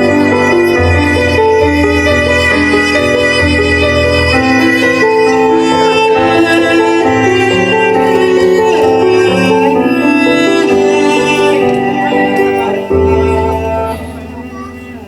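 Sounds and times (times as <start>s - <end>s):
solo cello bowed melody: 0.0s - 15.0s.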